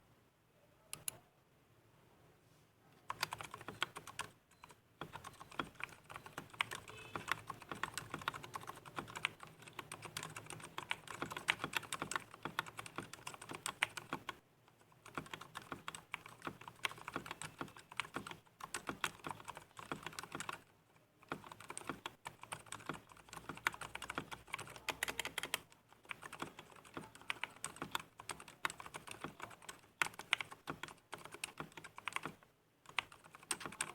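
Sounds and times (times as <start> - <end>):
fast typing on keyboard: 3.1 - 33.9.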